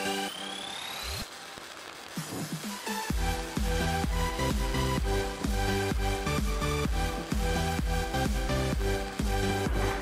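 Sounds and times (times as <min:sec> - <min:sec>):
electronic music with bass beat: 0:00.0 - 0:01.3, 0:02.0 - 0:10.0.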